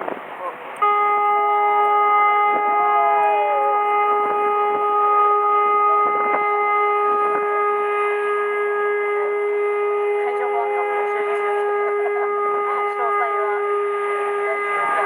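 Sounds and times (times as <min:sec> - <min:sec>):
ship's horn blast: 0:00.7 - 0:15.0.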